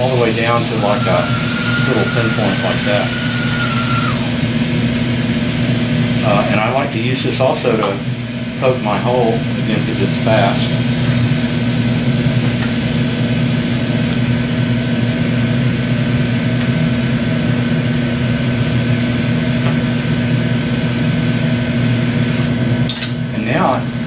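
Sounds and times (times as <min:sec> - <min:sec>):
gas torch burning with hiss: 0:00.0 - 0:08.1, 0:08.7 - 0:24.0.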